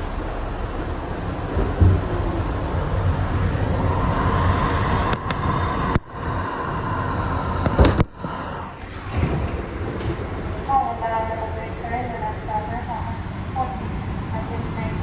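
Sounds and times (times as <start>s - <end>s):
subway wheels rumbling on track: 0.0s - 15.0s.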